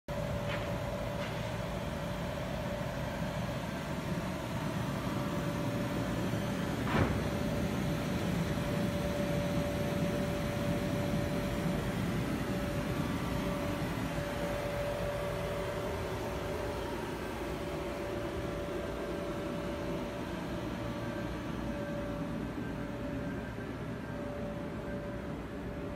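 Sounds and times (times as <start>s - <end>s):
electric blower fan humming: 0.1s - 25.9s.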